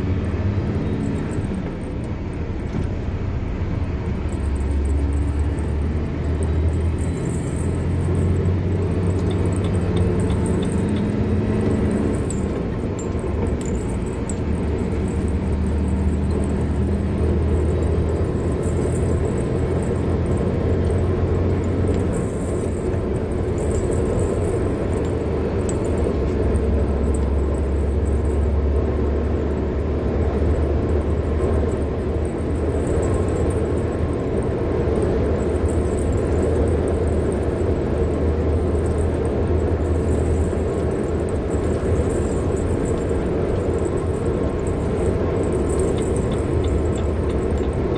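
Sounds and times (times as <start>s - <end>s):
car driving on road: 0.0s - 47.9s.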